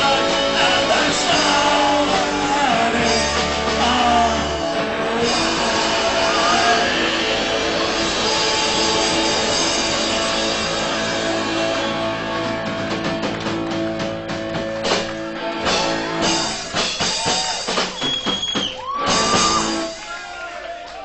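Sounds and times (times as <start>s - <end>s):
punk rock band playing: 0.0s - 20.2s.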